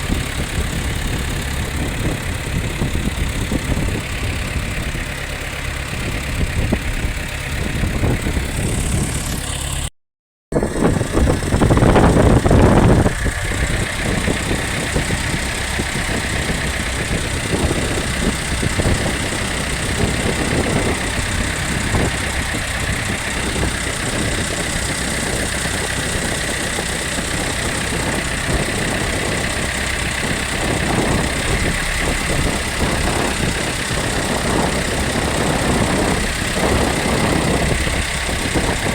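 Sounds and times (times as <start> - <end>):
boat engine running: 0.0 - 9.9, 10.5 - 38.9
wind: 0.0 - 9.9, 10.5 - 38.9.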